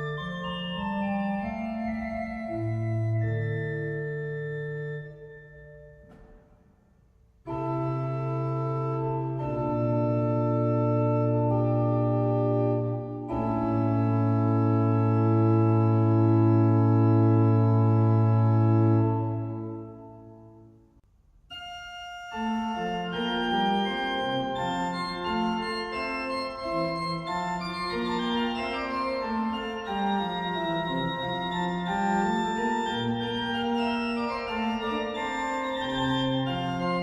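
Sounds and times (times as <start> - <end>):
pipe organ playing: 0.0 - 6.1, 7.4 - 20.8, 21.5 - 37.0.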